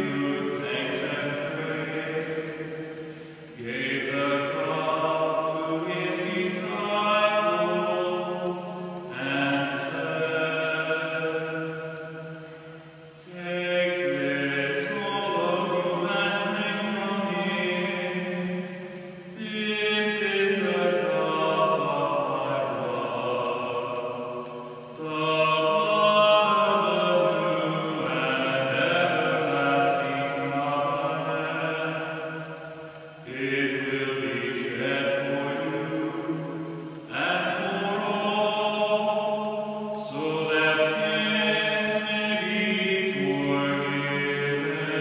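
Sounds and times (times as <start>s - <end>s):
congregation singing a hymn: 0.0s - 45.0s.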